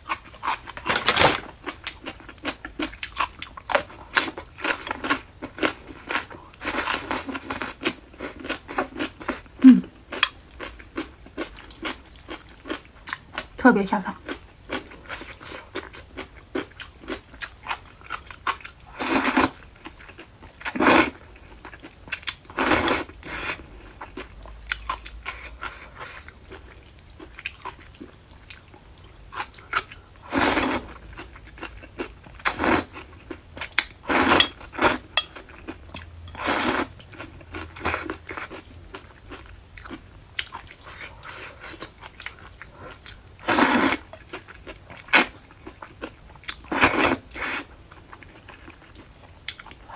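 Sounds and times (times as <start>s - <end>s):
person chewing crunchy food: 0.0s - 13.6s, 14.2s - 49.9s.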